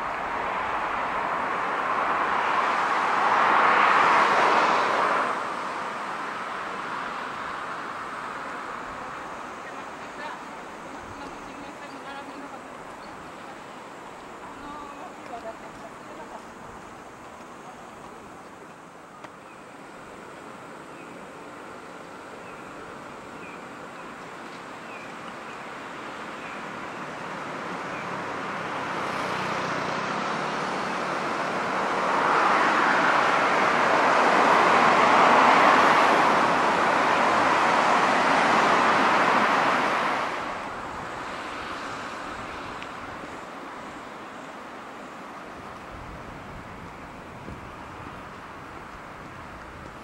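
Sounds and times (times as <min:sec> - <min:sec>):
road traffic rushing past: 0:00.0 - 0:50.0.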